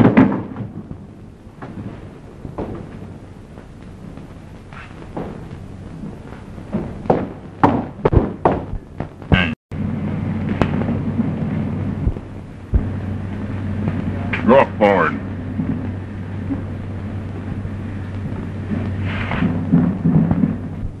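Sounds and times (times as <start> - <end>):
steady low hum: 0.0 - 21.0
storm cracks and crashes: 0.0 - 21.0.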